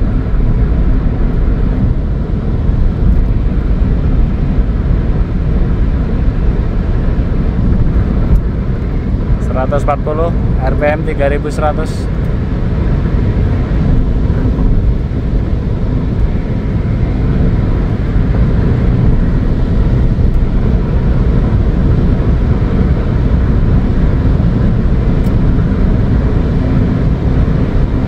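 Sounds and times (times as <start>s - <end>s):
car engine pulling steadily: 0.0s - 28.0s
road and wind rumble: 0.0s - 28.0s.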